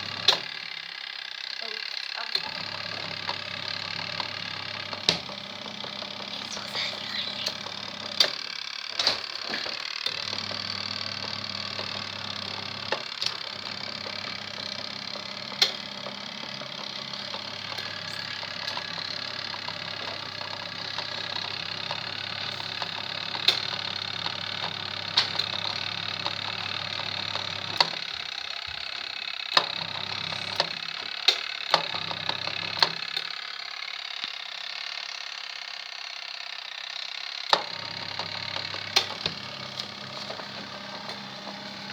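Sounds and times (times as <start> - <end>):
washing machine motor hum: 0.0 - 1.0, 1.6 - 33.4, 37.5 - 41.9.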